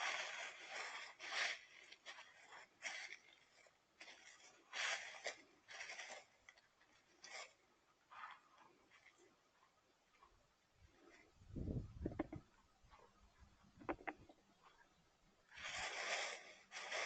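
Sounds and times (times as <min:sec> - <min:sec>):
rustling scraping noises: 0:00.0 - 0:14.8, 0:15.5 - 0:17.0.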